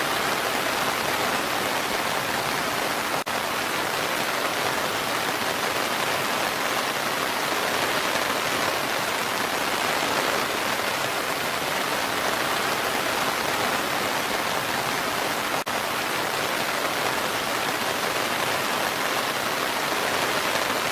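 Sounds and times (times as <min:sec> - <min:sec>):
rain on foliage: 0:00.0 - 0:20.9
waterfall rushing: 0:00.0 - 0:20.9.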